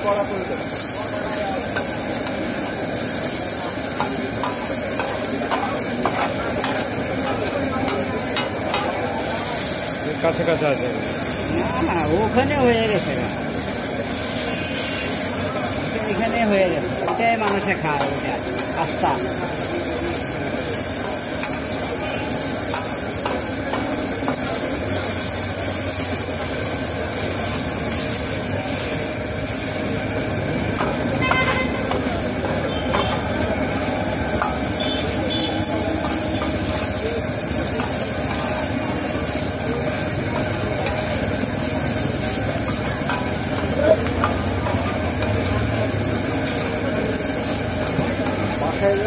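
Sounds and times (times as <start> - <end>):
oil sizzling: 0.0 - 49.0.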